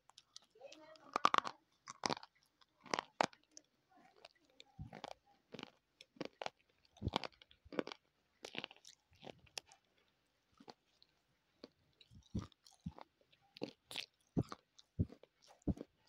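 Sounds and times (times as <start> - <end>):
chewing hard crunchy bar: 0.0 - 16.0.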